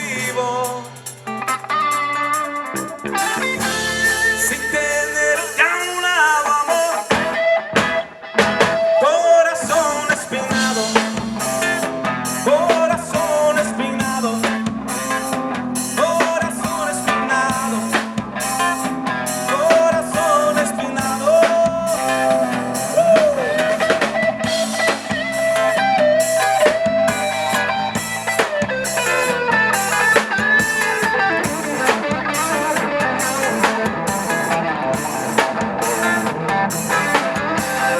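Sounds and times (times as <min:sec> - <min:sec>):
drum kit beat: 0:00.0 - 0:09.0, 0:09.7 - 0:37.9
bass: 0:00.0 - 0:37.9
guitar: 0:00.0 - 0:37.9.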